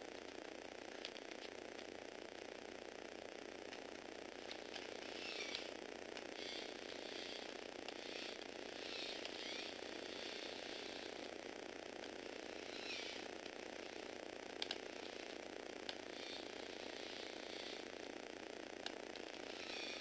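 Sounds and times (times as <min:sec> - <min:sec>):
electric motor and plastic gears whirring: 0:00.0 - 0:02.1, 0:03.6 - 0:20.0.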